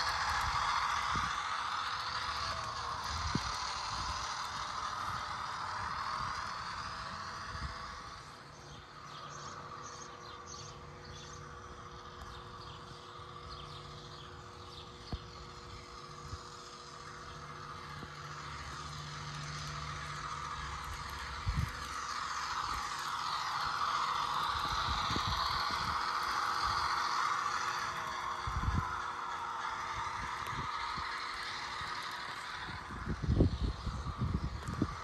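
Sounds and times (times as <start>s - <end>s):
diesel engine sound effect: 0.0s - 35.0s
model locomotive running: 0.0s - 35.0s.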